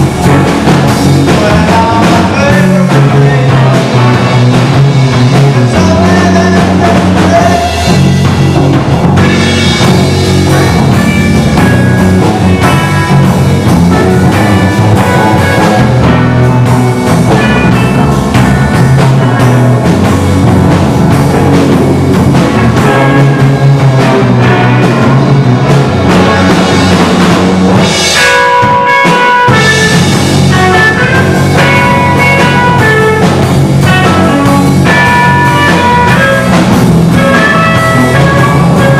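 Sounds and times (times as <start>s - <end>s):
rock music with drums and guitar: 0.0s - 38.9s.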